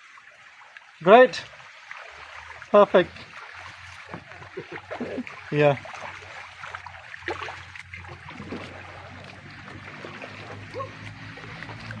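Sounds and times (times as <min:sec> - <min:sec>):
water splashing off paddle: 0:00.0 - 0:12.0
light paddle strokes: 0:01.6 - 0:12.0.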